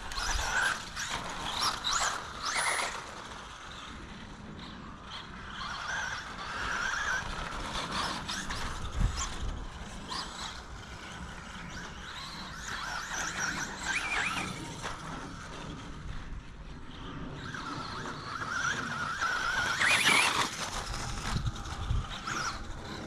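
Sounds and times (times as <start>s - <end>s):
rc car motor whining: 0.0s - 23.0s.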